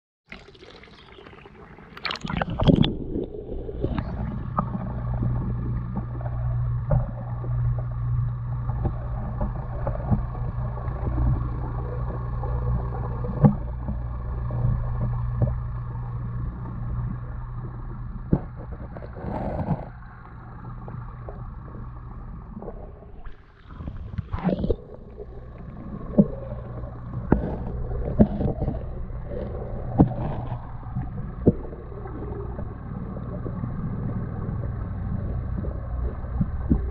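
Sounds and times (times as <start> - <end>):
low underwater hum: 0.3 - 36.9.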